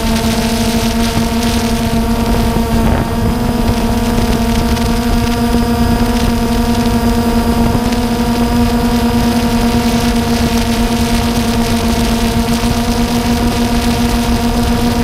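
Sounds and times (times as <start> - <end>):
drone propellers whining: 0.0 - 15.0
wind rumble on microphone: 0.0 - 15.0.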